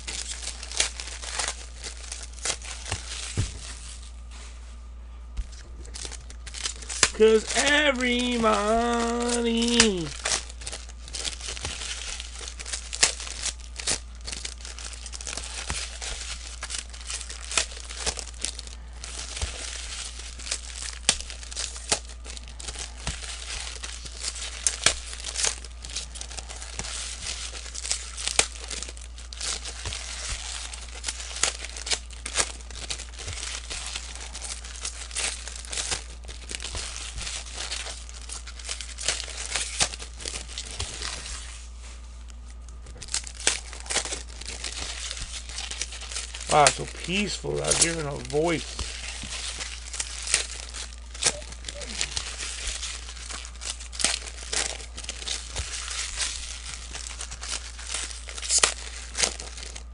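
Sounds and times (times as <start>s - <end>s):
plastic wrappers crinkling: 0.0s - 59.9s.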